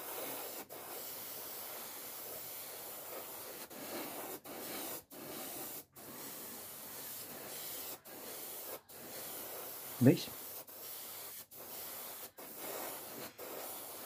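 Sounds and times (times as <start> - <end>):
airbrush spraying hiss: 0.0 - 14.0.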